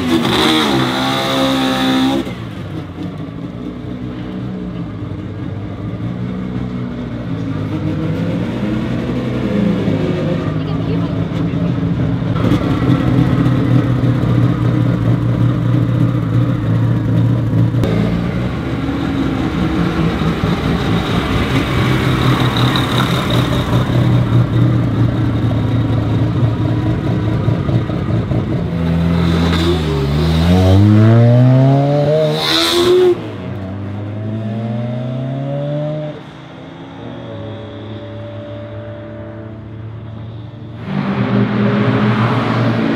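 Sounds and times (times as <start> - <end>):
rotary engine idling and revving: 0.0 - 42.9.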